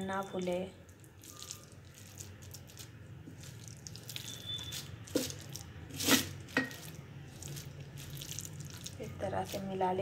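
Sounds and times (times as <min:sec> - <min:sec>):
hand squishing wet batter: 0:00.3 - 0:10.0.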